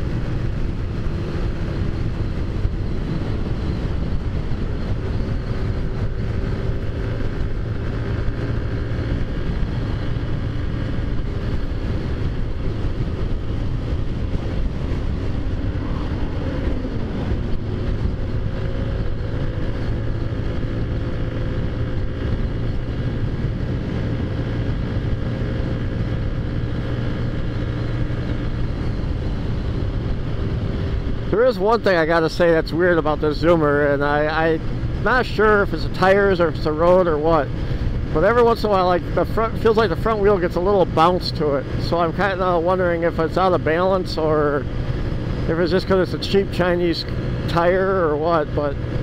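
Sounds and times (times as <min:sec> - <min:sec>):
wind noise on microphone: 0:00.0 - 0:49.0.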